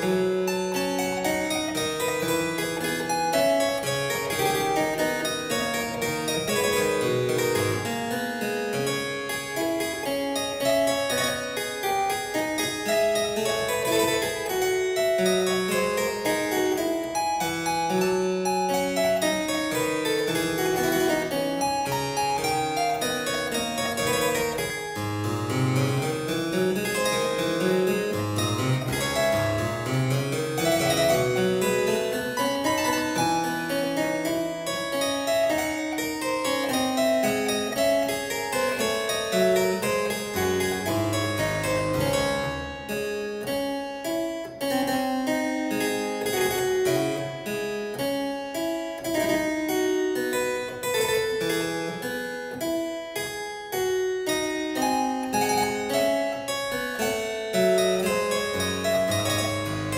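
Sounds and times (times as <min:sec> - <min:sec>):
harpsichord music: 0:00.0 - 0:59.9.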